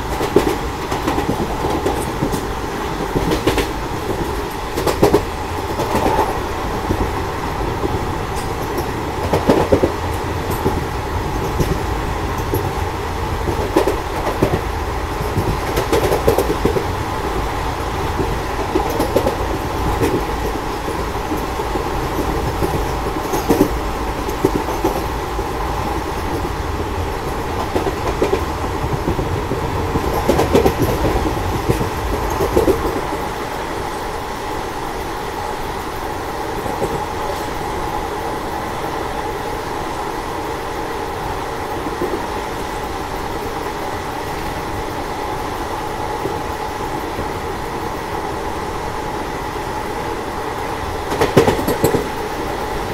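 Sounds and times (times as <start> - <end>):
train knocks and clatter: 0.0 - 52.9
train wheels rumbling on rail: 0.0 - 52.9
wind noise: 0.0 - 52.9.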